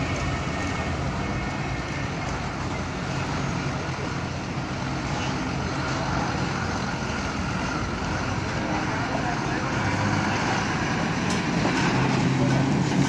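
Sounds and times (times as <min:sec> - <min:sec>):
lorry diesel engine running: 0:00.0 - 0:13.0.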